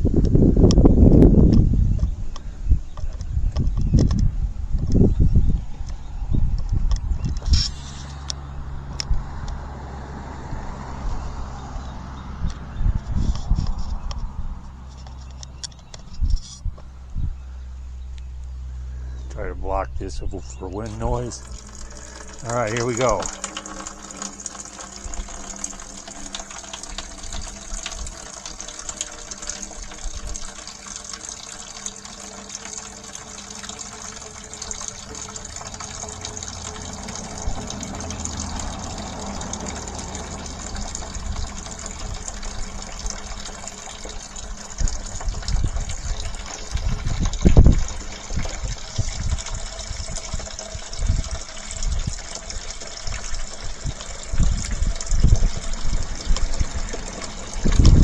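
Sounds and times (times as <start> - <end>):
wind buffeting microphone: 0.0 - 31.8, 34.4 - 58.0
water rushing from pipe: 0.0 - 58.0.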